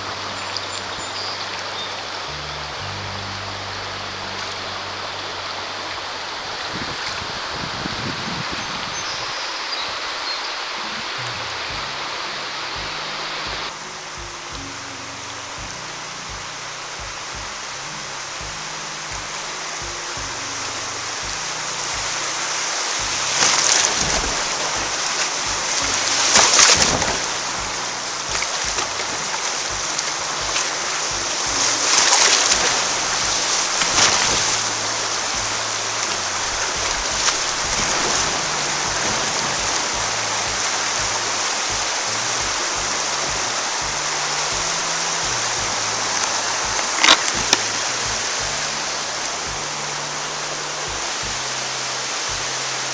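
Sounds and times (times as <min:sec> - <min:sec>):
creek water rushing over riffles: 0:00.0 - 0:52.9
water splashing: 0:00.0 - 0:52.9.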